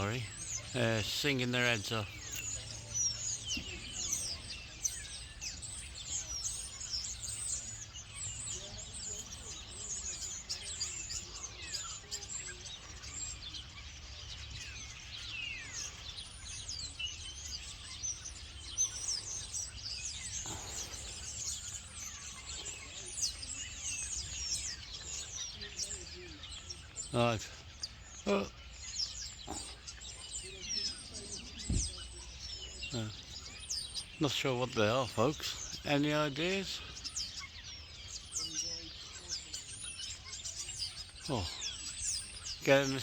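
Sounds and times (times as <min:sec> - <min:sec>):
flock of birds chirping: 0:00.0 - 0:43.0.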